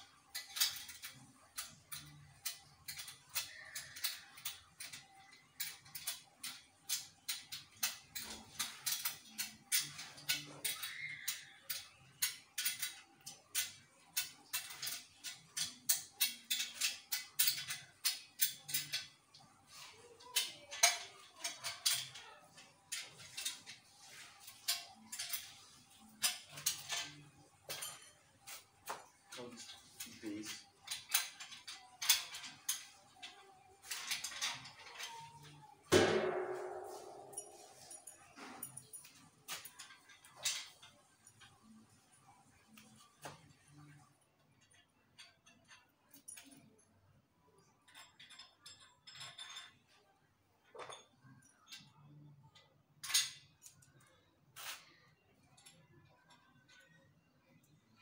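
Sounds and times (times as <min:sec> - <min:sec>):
metal parts clicking and clinking: 0:00.0 - 0:46.9, 0:47.8 - 0:58.0.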